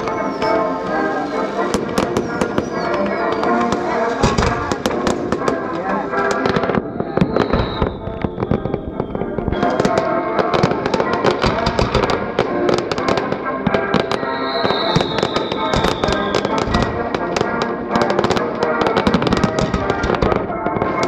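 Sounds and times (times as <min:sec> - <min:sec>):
firework whistles: 0:00.0 - 0:12.2, 0:13.8 - 0:21.0
fireworks bangs and crackles: 0:00.0 - 0:21.0.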